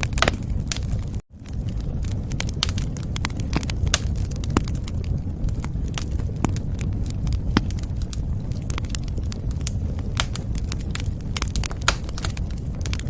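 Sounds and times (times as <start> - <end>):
low rumble of burning logs: 0.0 - 13.0
snaps and pops of burning logs: 0.0 - 13.0
wood fire crackling: 0.0 - 13.0.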